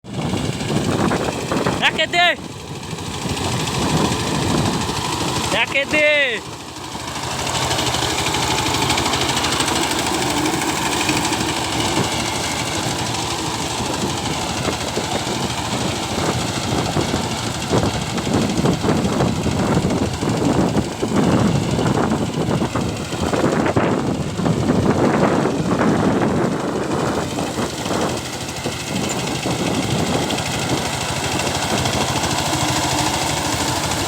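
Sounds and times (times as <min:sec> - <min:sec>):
diesel engine knocking: 0:00.1 - 0:34.0.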